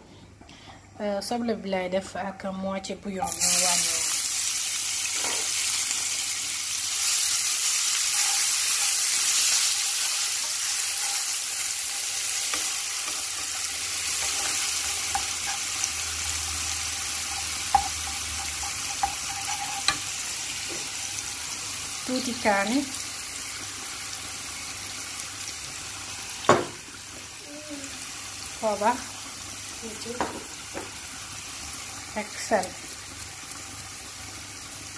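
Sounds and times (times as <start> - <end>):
onions sizzling in oil: 3.2 - 34.9.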